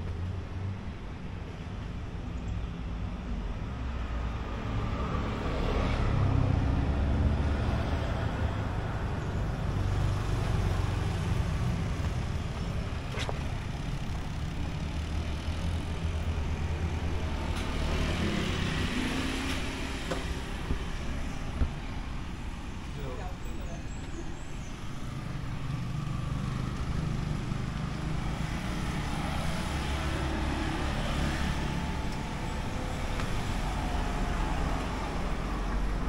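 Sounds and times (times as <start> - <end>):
vehicle engine humming: 3.2 - 36.0.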